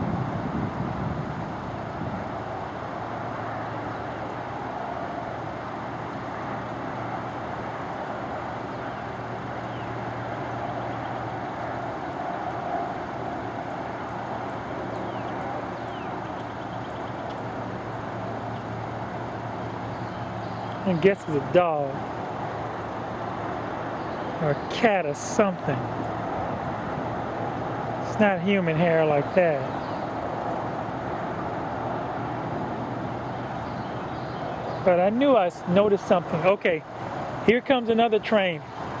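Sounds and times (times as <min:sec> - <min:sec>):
distant road traffic hum: 0:00.0 - 0:39.0.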